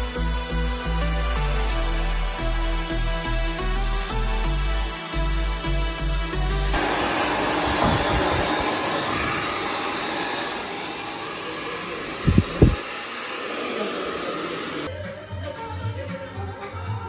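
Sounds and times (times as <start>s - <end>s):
hair dryer blowing: 0.0s - 14.9s.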